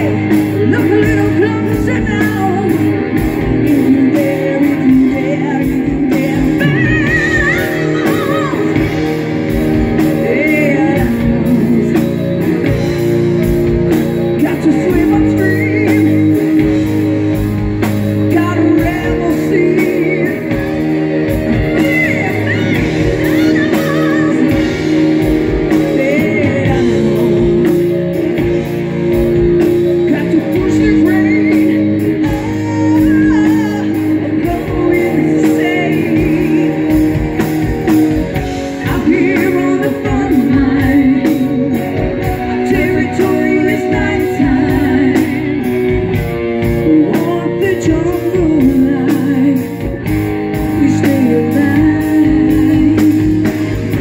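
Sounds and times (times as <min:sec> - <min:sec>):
drum kit: 0:00.0 - 0:54.0
electric guitars: 0:00.0 - 0:54.0
woman singing lead: 0:00.0 - 0:54.0.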